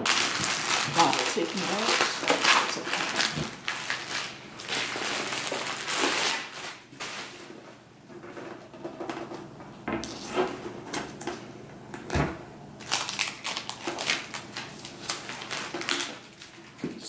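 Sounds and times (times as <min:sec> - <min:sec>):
plastic wrapping crinkling: 0:00.0 - 0:11.4, 0:12.8 - 0:17.0.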